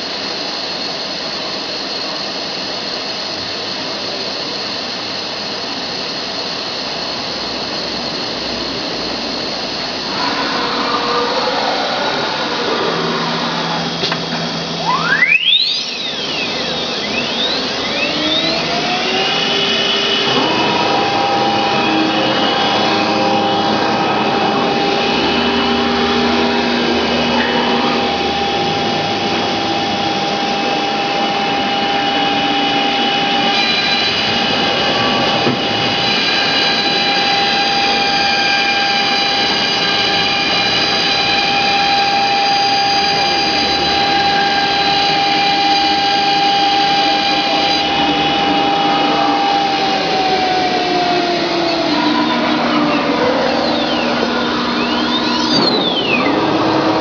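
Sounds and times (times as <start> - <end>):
machine noise: 0.0 - 57.0
router spindle whine: 0.0 - 57.0.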